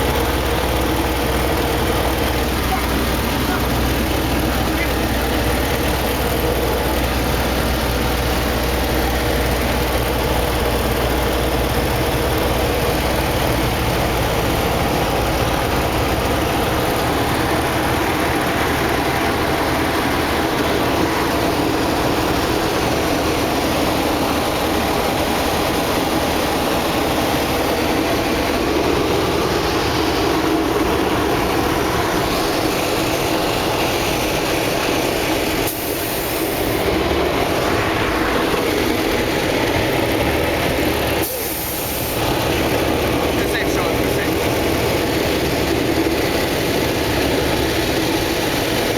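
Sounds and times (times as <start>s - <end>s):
engine rumbling: 0.0s - 48.9s.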